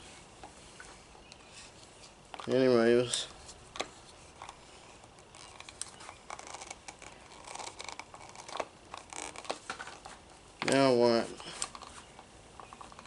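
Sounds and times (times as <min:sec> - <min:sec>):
plastic clicks and scraping: 0:01.3 - 0:10.8, 0:11.4 - 0:13.0.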